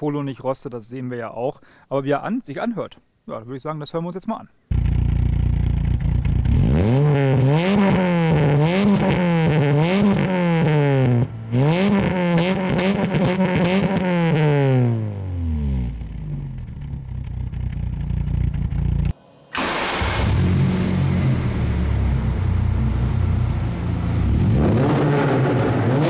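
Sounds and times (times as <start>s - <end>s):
car engine idling and revving: 4.7s - 26.0s.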